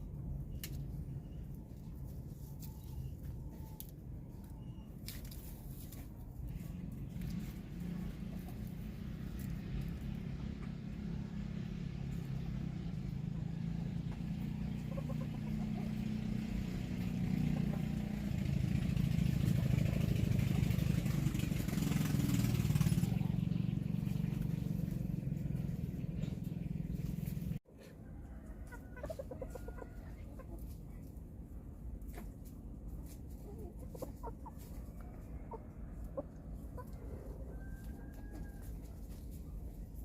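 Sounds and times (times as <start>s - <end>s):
engine rumbling: 0.0s - 40.0s.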